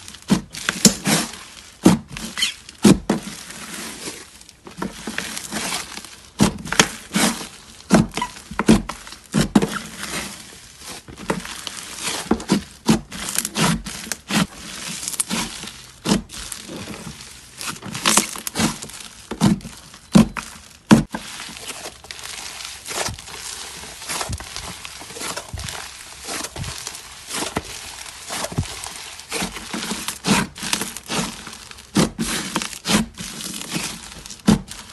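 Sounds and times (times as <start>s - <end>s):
slime popping and crackling: 0.0s - 34.9s.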